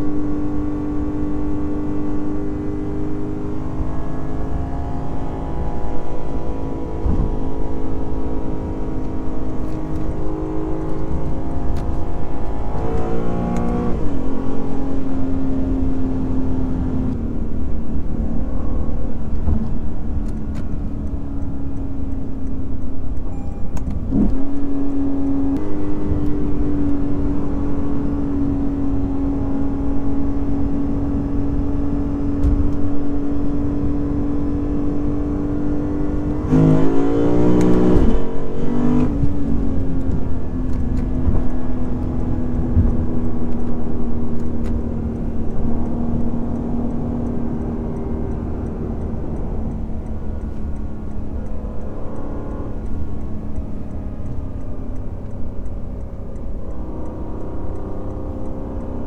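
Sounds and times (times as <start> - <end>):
car engine driving: 0.0 - 59.0
low road rumble: 0.0 - 59.0.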